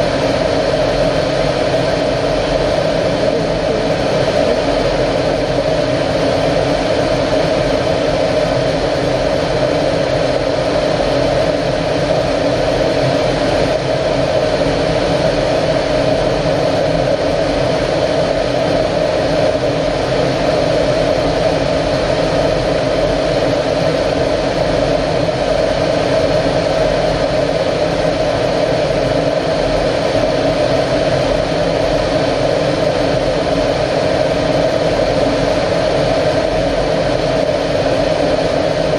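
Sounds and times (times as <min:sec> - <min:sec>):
jet engine drone: 0:00.0 - 0:38.9.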